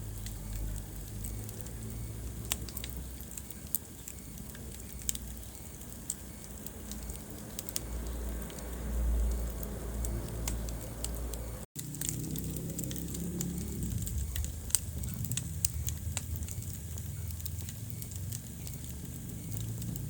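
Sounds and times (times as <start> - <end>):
low rumble of flames: 0.0 - 20.0
wood fire pops and crackles: 0.0 - 20.0.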